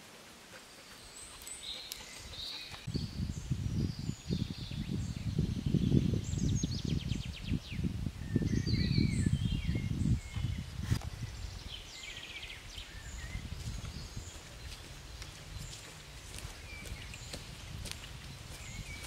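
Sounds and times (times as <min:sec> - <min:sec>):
forest birds singing: 0:00.0 - 0:19.0
wind rumble on microphone: 0:02.2 - 0:19.0.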